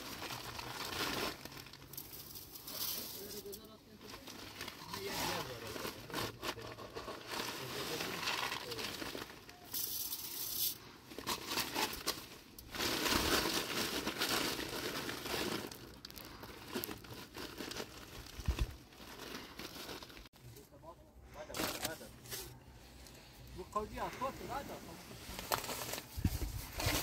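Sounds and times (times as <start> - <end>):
plastic and cloth rustling: 0.0 - 27.0.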